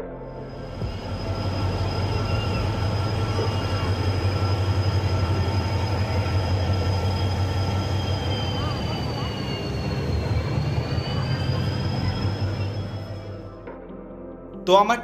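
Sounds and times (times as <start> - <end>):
train low hum: 0.0 - 13.7
thin high tones: 0.4 - 13.5.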